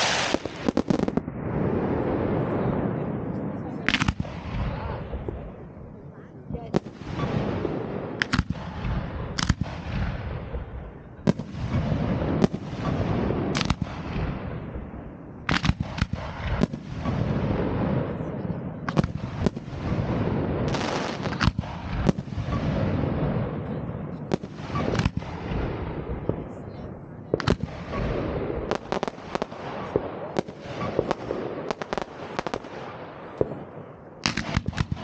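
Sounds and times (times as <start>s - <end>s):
firework bangs: 0.0s - 5.7s, 6.6s - 35.0s
rumble and crackle of fireworks: 0.0s - 35.0s.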